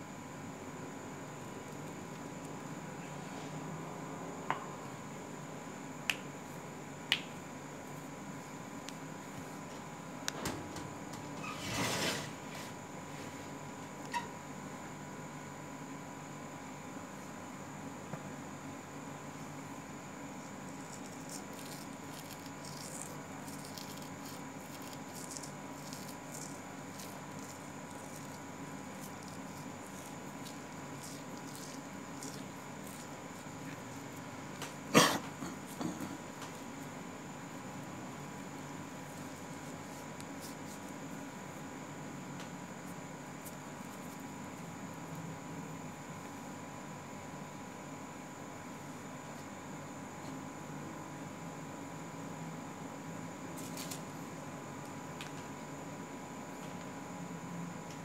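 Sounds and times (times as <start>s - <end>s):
thin steady hum: 0.0s - 58.0s.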